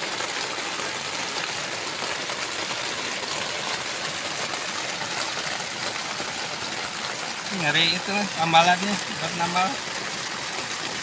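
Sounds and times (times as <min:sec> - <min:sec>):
heavy rain on a tent: 0:00.0 - 0:11.0.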